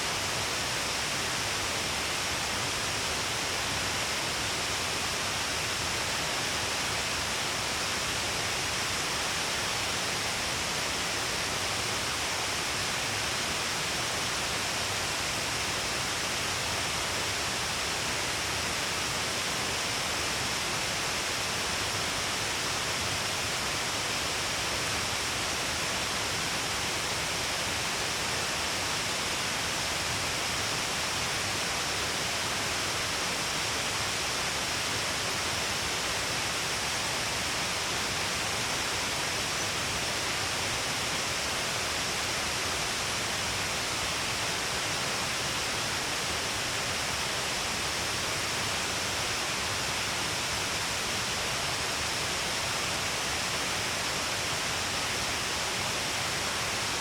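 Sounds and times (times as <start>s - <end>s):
waterfall rushing into pool: 0.0s - 57.0s.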